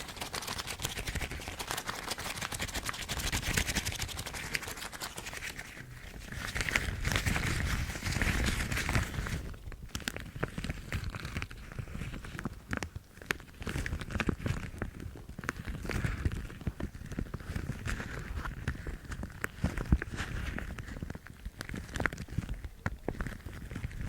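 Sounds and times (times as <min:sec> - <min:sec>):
rubber gloves crinkling: 0:00.0 - 0:24.0.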